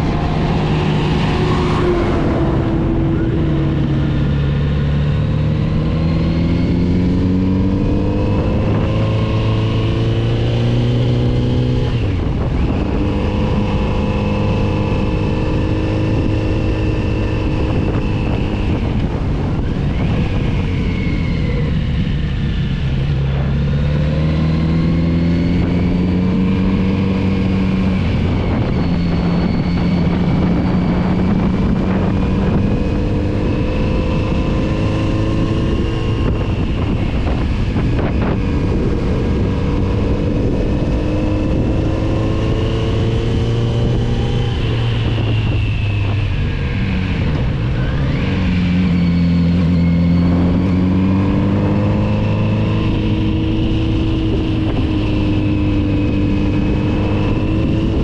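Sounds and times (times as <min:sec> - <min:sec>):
motorcycle engine: 0:00.0 - 0:58.0
wind rush: 0:00.0 - 0:58.0.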